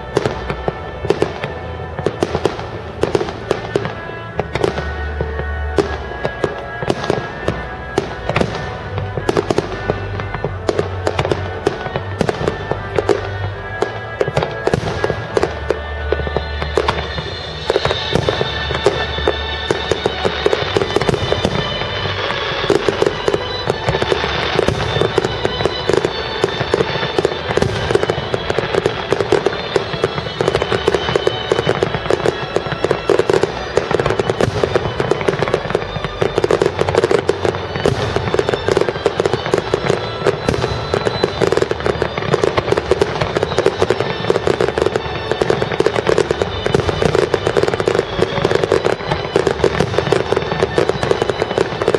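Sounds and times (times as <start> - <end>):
fireworks popping and crackling: 0.0 - 51.9
music playing: 0.0 - 51.9.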